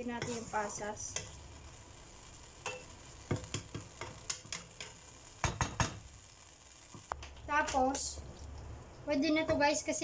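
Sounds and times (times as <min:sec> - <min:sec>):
light sizzle: 0:00.0 - 0:10.0.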